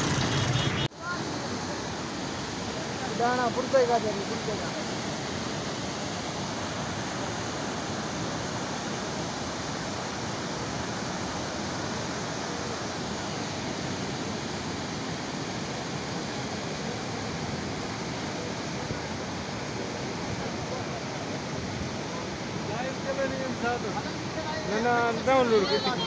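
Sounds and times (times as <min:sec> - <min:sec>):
flood water rushing: 0:00.0 - 0:26.0.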